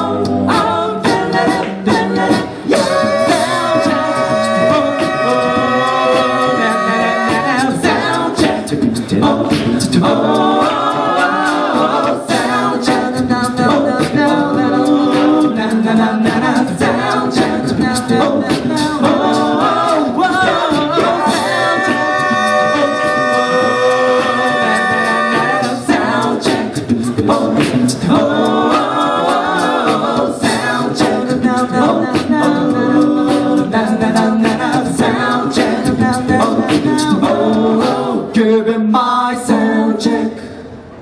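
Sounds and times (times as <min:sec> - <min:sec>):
a cappella harmony singing: 0:00.0 - 0:40.9
vocal percussion beat: 0:00.0 - 0:41.0.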